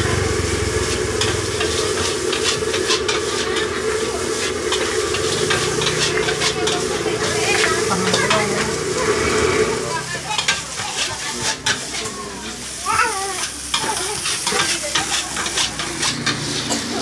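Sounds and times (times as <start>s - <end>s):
rice sizzling in a wok: 0.0s - 17.0s
metal spatula scraping a wok: 0.5s - 17.0s.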